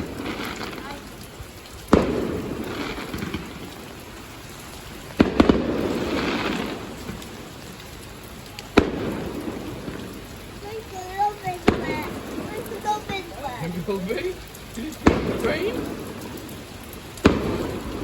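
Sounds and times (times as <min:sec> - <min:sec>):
fireworks bangs: 0:00.0 - 0:07.8, 0:08.6 - 0:18.0
crackling and rumbling echo: 0:00.0 - 0:13.6, 0:14.3 - 0:18.0.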